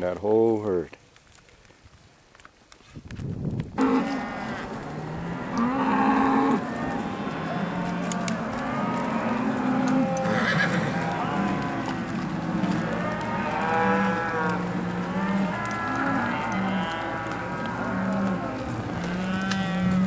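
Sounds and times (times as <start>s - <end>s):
cattle mooing: 3.8s - 20.0s.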